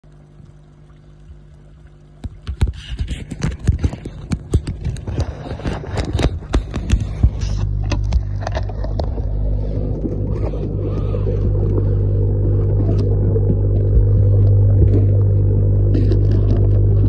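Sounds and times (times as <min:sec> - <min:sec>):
low underwater rumble: 0:00.0 - 0:17.0
water splashing against camera: 0:00.0 - 0:17.0.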